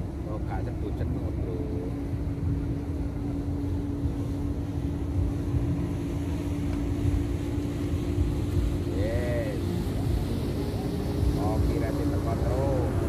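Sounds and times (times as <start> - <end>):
motorboat engine droning: 0.0 - 13.0
wind rumble on microphone: 0.0 - 13.0.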